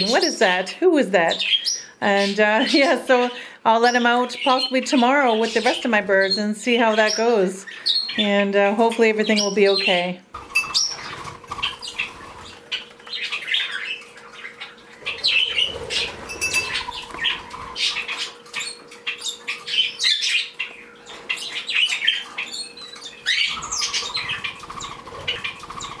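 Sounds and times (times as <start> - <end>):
small birds chirping and chattering: 0.0 - 26.0.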